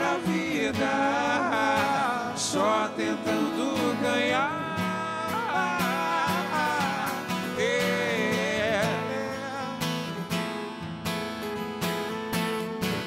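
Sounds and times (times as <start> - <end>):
man singing wordless line: 0.0 - 10.7
acoustic guitars strummed and picked: 0.0 - 13.0.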